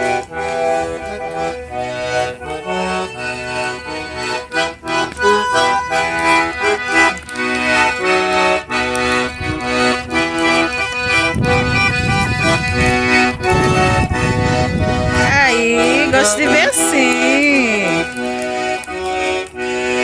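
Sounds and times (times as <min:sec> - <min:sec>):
accordion playing lively tune: 0:00.0 - 0:20.0.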